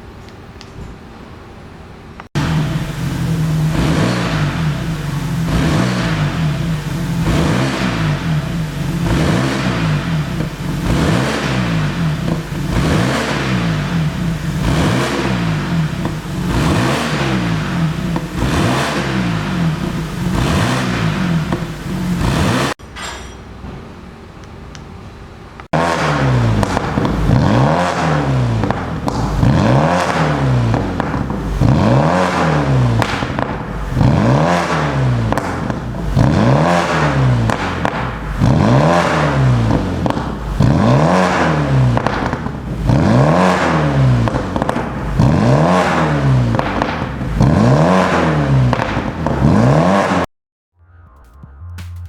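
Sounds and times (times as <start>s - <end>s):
car engine revving: 2.3s - 22.8s, 25.6s - 50.3s.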